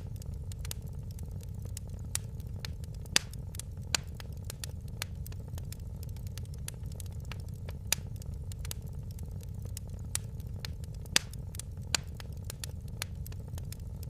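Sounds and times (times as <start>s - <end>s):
fire crackling: 0.0s - 14.0s
fire popping: 0.0s - 14.0s
low rumble: 0.0s - 14.0s.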